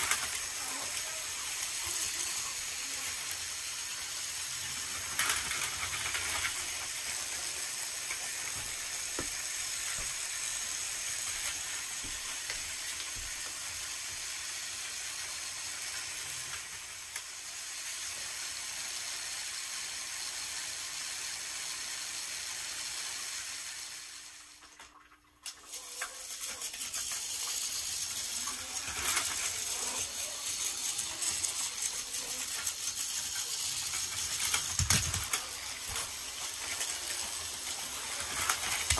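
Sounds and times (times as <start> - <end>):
toy train motors whirring: 0.0 - 38.9.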